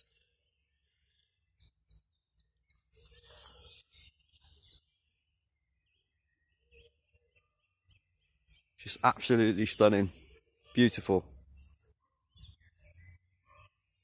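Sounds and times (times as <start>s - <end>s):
birds singing and chirping: 0.0s - 14.0s.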